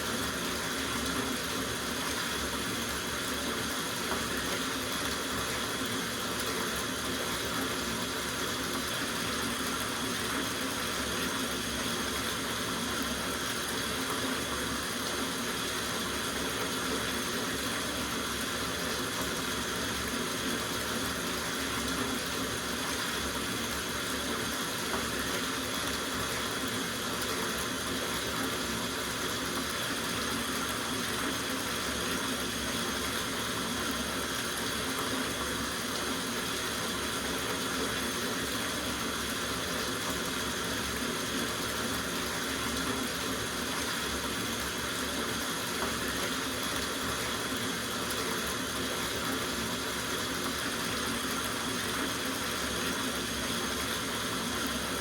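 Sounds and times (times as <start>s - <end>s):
tap water running into bathtub: 0.0s - 55.0s.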